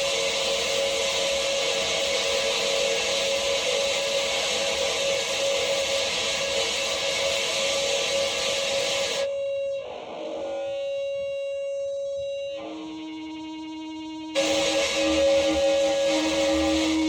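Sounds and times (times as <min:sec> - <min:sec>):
sustained droning tone: 0:00.0 - 0:17.0.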